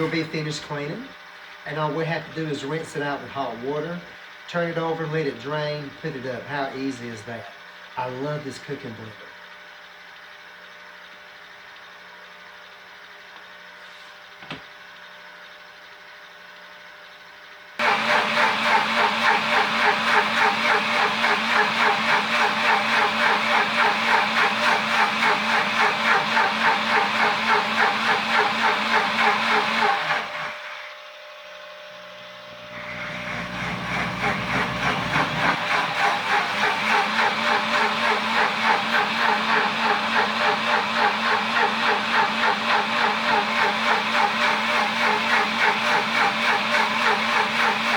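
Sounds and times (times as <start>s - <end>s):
blender motor churning water: 0.0s - 13.8s, 17.8s - 47.9s.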